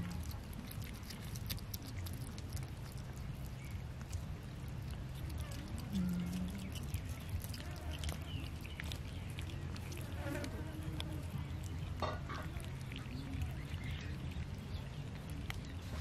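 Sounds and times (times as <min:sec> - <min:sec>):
cats chewing wetly: 0:00.0 - 0:16.0
low hum: 0:00.0 - 0:16.0.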